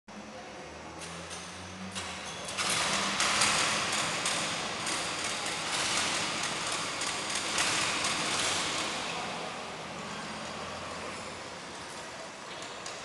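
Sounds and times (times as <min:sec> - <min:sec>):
go-kart engines running: 0:00.2 - 0:13.0.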